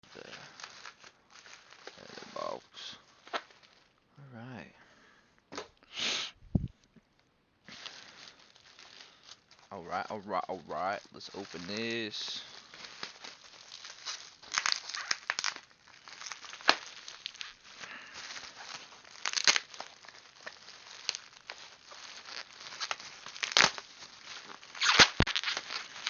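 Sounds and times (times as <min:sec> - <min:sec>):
packaging crinkling and tearing: 0:00.0 - 0:04.0, 0:07.7 - 0:26.0.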